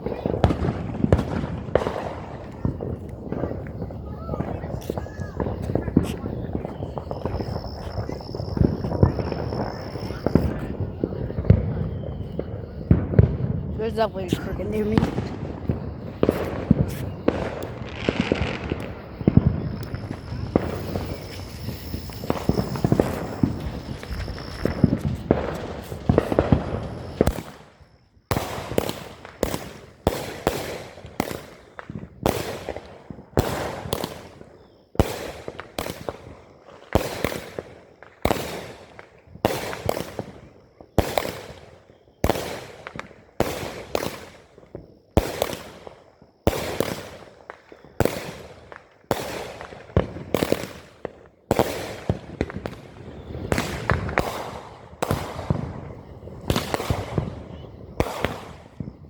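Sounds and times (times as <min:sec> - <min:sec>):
firework bangs: 0:00.0 - 0:59.0
firework crackling: 0:00.0 - 0:59.0.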